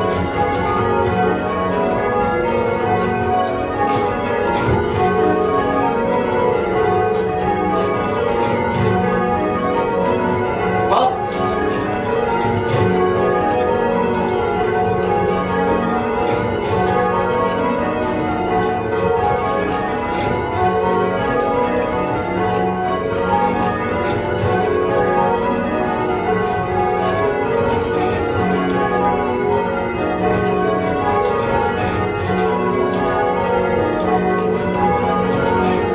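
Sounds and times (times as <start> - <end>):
church bells change ringing: 0.0 - 35.9.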